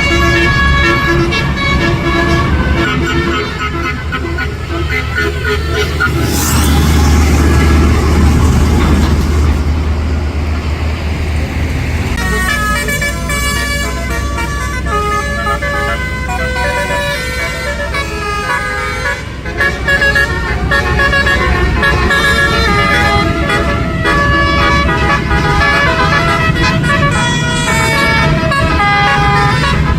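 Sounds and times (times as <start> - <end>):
multi-note bus horn tune: 0.0 - 9.7, 12.2 - 29.9
bus rushing past: 0.0 - 29.9.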